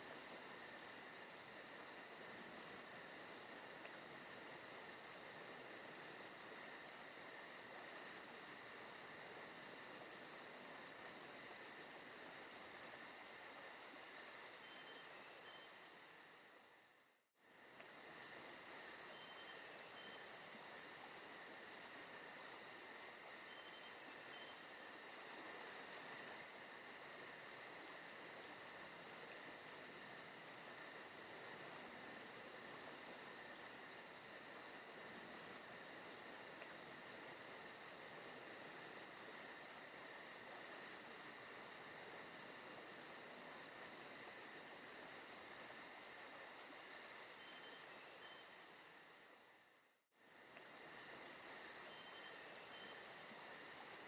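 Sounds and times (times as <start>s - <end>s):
crickets and insects chirring: 0.0s - 54.0s.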